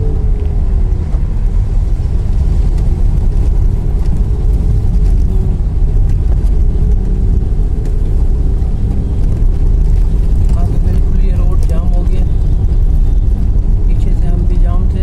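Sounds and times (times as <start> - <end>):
car interior rumble: 0.0 - 15.0
tyres on wet road: 0.0 - 15.0.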